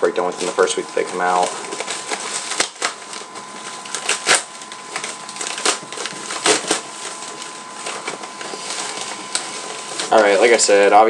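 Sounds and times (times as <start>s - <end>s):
packaging being torn open: 0.4s - 10.6s.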